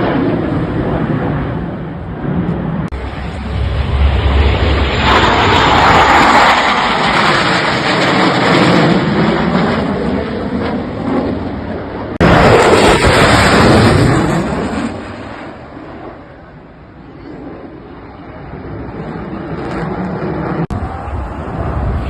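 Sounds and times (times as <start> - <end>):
aircraft passing overhead: 0.0 - 22.0.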